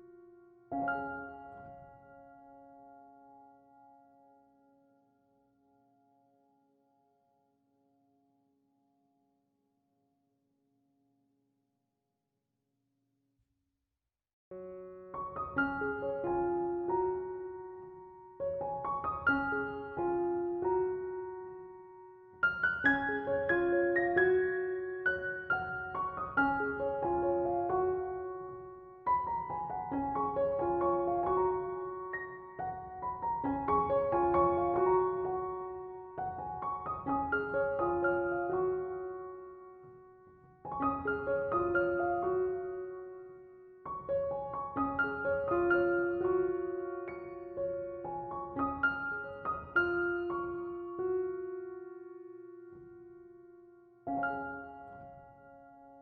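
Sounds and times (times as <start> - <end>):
piano music: 0.0 - 5.1, 14.5 - 56.0.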